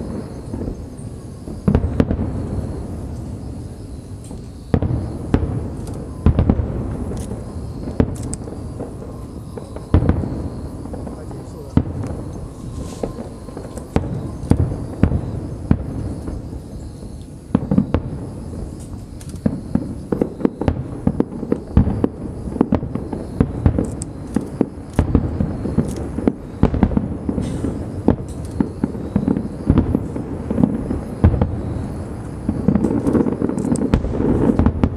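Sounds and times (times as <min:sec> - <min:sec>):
fireworks bursts and booms: 0:00.0 - 0:34.9.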